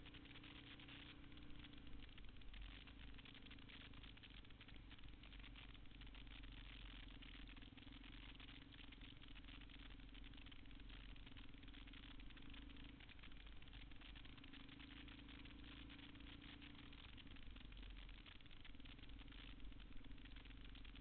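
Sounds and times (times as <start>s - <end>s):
faint motorcycle engine: 0.0s - 21.0s.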